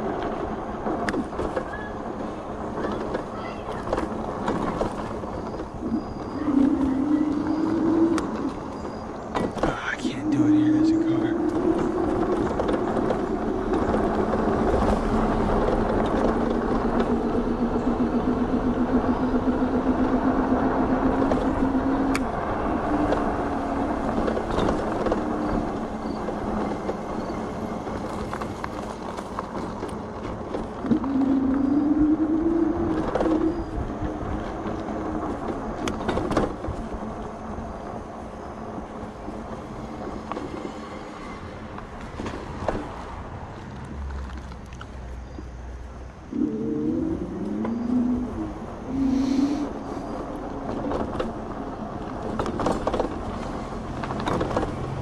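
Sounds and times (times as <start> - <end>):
wind and tyre noise: 0.0 - 55.0.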